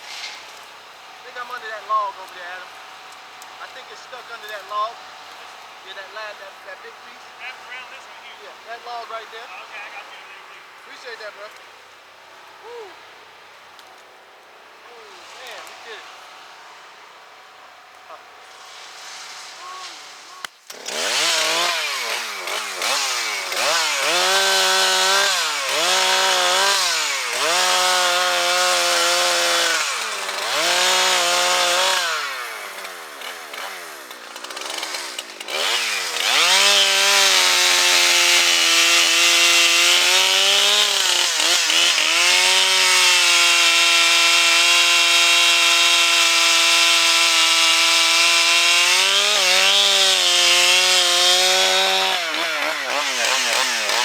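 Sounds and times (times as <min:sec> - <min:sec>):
chainsaw revving: 0:00.0 - 0:13.8, 0:14.7 - 0:54.0.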